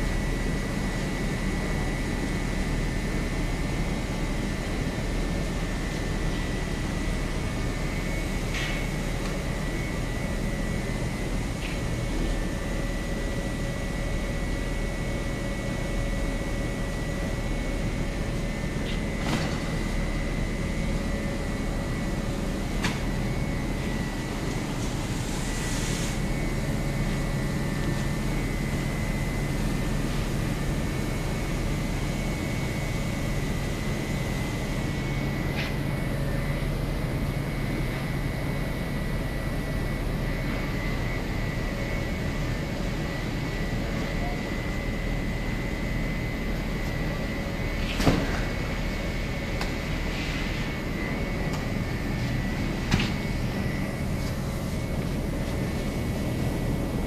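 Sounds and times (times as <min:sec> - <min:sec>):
conveyor motor hum and whine: 0:00.0 - 0:57.0.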